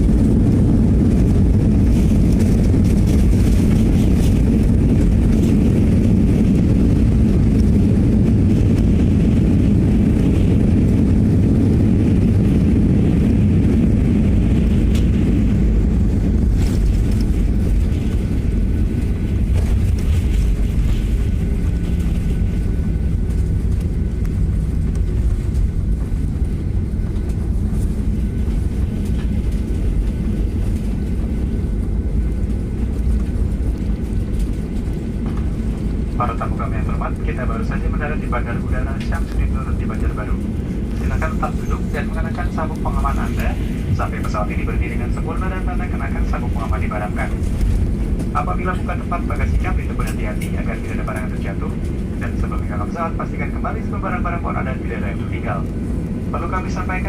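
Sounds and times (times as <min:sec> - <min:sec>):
jet engine and airflow rumble: 0:00.0 - 0:57.0.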